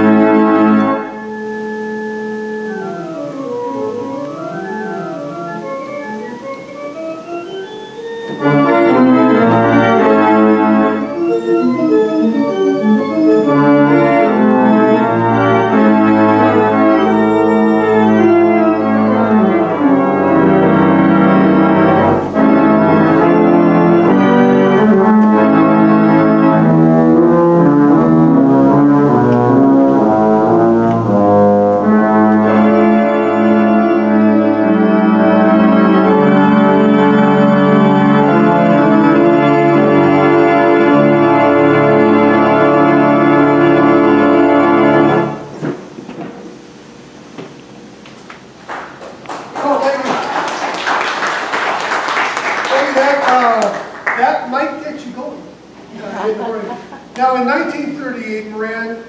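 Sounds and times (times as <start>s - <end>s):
pipe organ chords: 0.0s - 49.3s, 50.8s - 59.0s.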